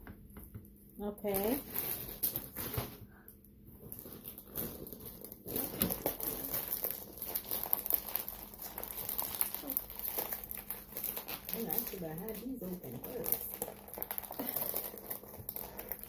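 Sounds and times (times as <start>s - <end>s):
plastic bag crinkling: 1.2s - 3.0s, 3.8s - 16.0s.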